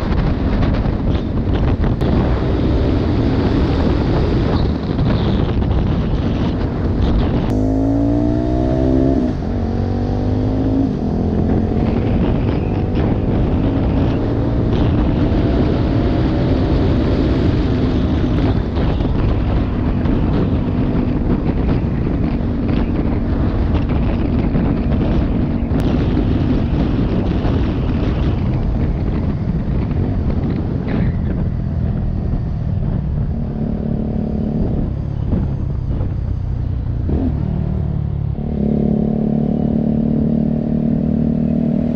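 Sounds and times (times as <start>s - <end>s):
motorcycle engine accelerating: 0.0s - 41.9s
wind rumble on microphone: 0.0s - 41.9s.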